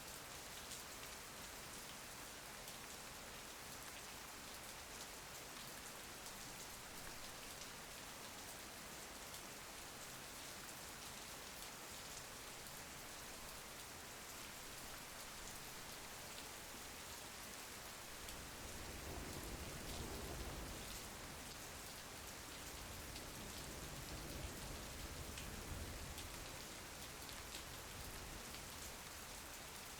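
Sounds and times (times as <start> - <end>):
patter of raindrops: 0.0 - 29.9
rain hiss: 0.0 - 29.9.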